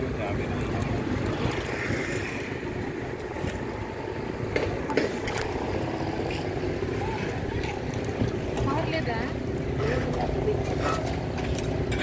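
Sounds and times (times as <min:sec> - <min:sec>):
low rumble: 0:00.2 - 0:10.8.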